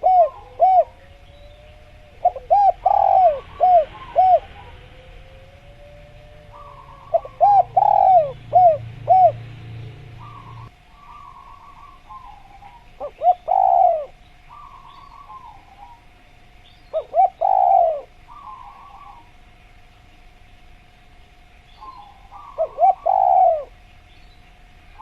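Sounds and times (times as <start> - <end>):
dove cooing: 0.0 - 19.4, 21.7 - 23.8
small birds chirping: 0.0 - 25.0.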